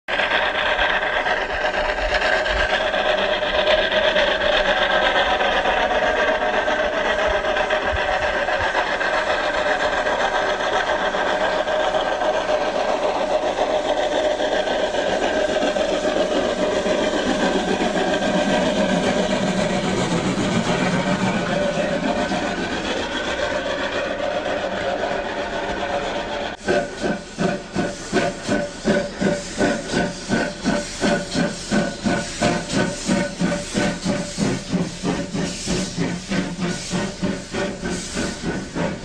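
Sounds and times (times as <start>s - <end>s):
train running: 0.0s - 39.0s.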